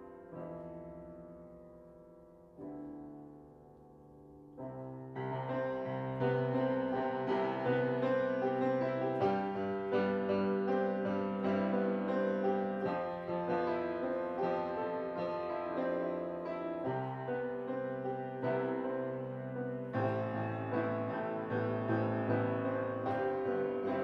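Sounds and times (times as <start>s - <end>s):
grand piano playing: 0.0s - 24.0s.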